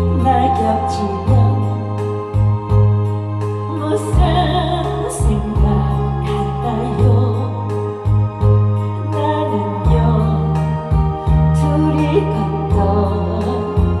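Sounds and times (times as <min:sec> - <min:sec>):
pop ballad with singing: 0:00.0 - 0:14.0.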